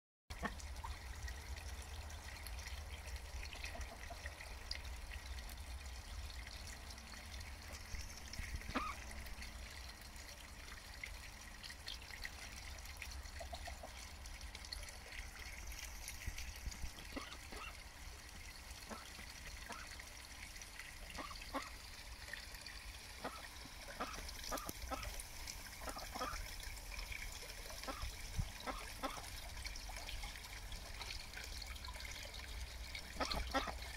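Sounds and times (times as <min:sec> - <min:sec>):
duck dabbling in water: 0:00.3 - 0:33.9
trickling water: 0:00.3 - 0:33.9.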